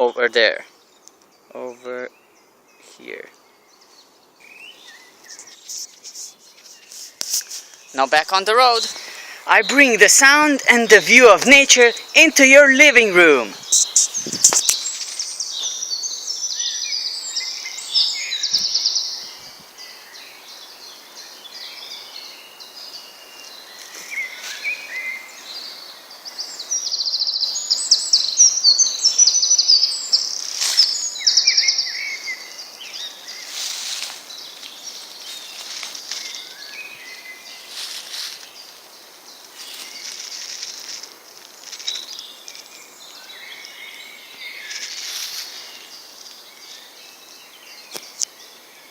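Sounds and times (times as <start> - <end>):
songbirds singing and chirping: 0.0 - 48.9.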